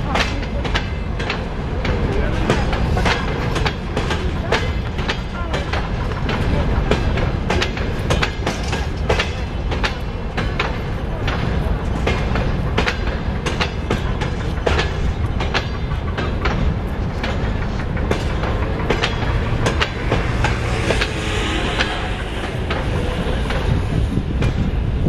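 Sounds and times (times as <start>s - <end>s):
train low rumble: 0.0s - 25.0s
train wheels clacking over joints: 0.0s - 25.0s.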